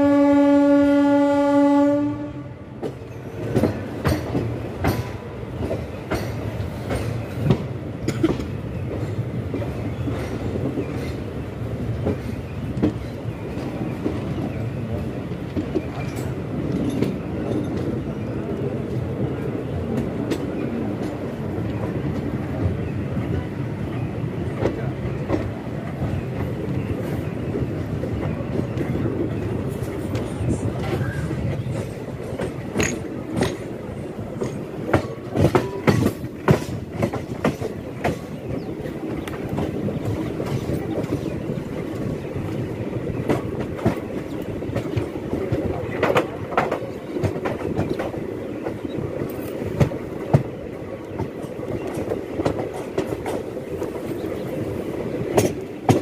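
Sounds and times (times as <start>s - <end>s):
train wheels rumbling on rail: 0.0s - 56.0s
clickety-clack of wheels: 2.8s - 56.0s.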